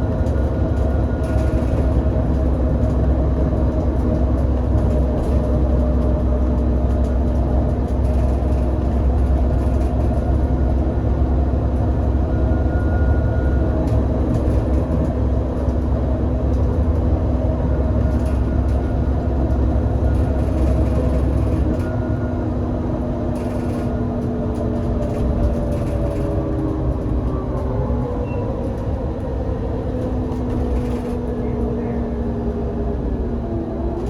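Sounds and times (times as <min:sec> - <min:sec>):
bus engine droning: 0:00.0 - 0:34.0.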